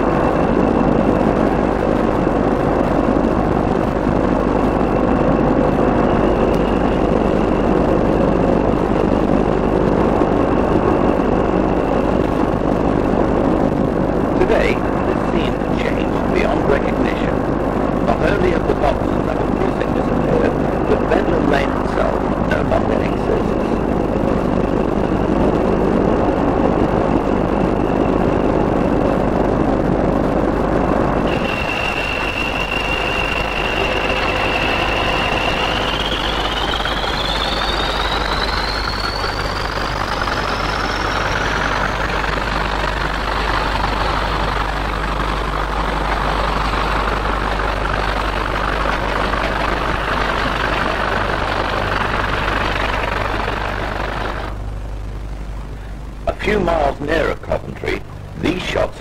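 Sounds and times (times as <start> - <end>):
diesel locomotive roar: 0.0 - 59.0
high whine rising in pitch: 0.0 - 59.0.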